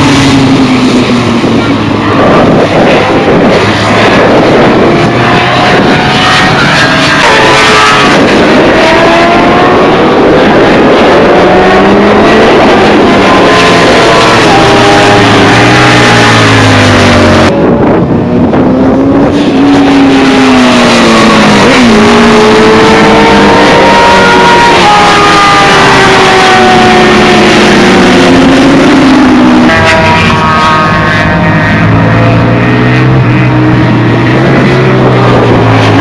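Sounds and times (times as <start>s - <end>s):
motorcycle engines racing: 0.0s - 36.0s.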